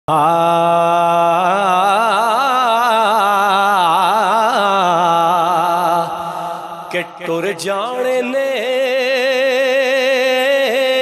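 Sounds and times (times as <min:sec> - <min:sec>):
man singing: 0:00.1 - 0:11.0.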